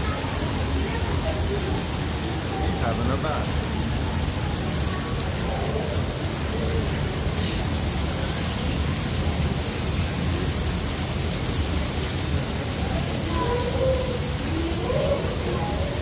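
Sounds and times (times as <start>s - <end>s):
waterfall pouring into pool: 0.0s - 16.0s.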